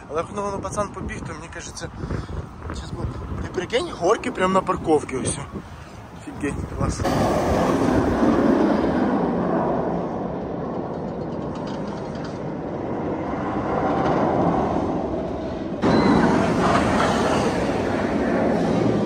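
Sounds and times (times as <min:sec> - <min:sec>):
roller coaster rumbling on track: 0:00.0 - 0:19.0.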